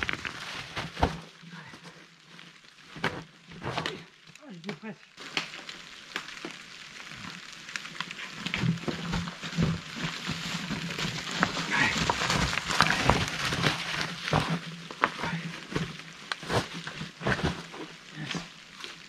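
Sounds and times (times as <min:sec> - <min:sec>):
tyre hiss and trail noise: 0:01.2 - 0:19.0.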